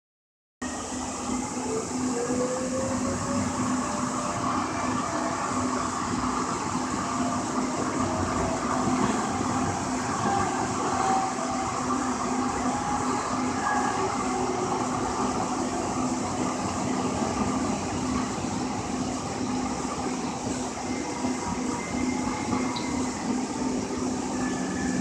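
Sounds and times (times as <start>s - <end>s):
light rail car running noise: 0.6s - 25.0s
train motor whine rising: 0.6s - 25.0s.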